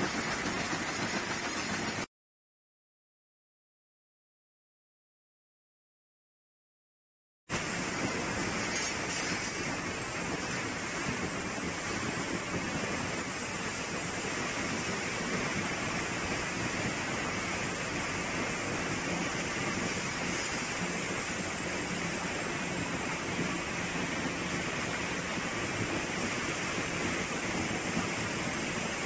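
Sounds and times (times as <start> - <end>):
rotating drum rushing noise: 0.0 - 2.1, 7.5 - 29.0.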